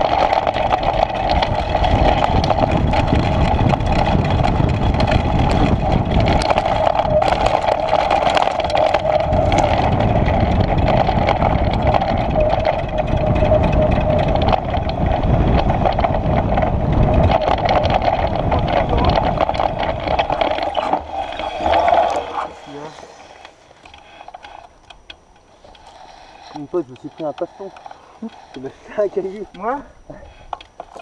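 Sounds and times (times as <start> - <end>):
bike tyres humming: 0.0 - 31.0
wind rumble: 0.0 - 31.0.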